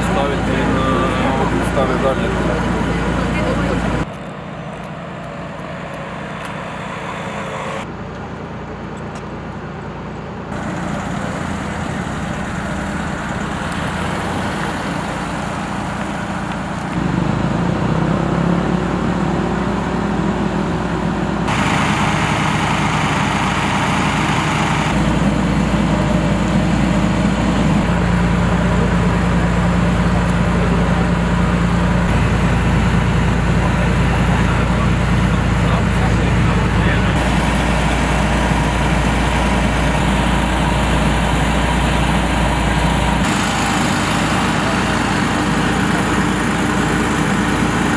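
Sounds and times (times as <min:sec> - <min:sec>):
city street traffic noise: 0:00.0 - 0:47.9
low engine hum: 0:00.0 - 0:47.9.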